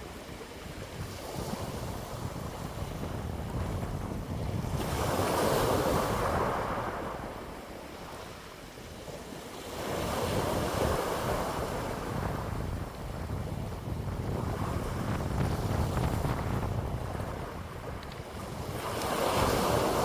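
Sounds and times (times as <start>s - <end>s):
wind buffeting microphone: 0.0s - 20.0s
wind gusts: 0.0s - 20.0s.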